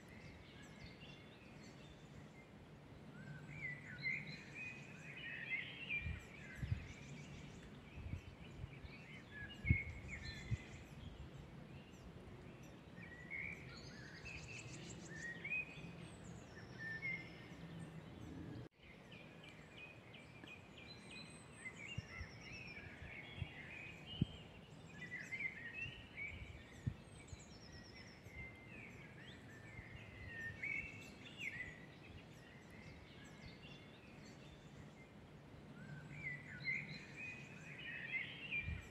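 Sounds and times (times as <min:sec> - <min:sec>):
birds singing and calling: 0:00.0 - 0:38.9.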